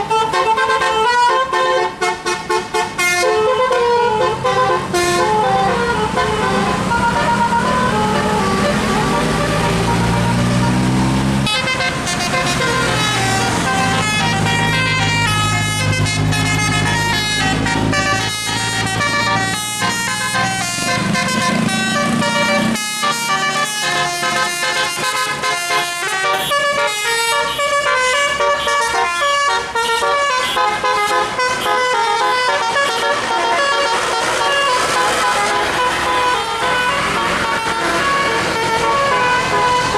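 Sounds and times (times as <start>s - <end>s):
musical air horn melody: 0.0s - 39.9s.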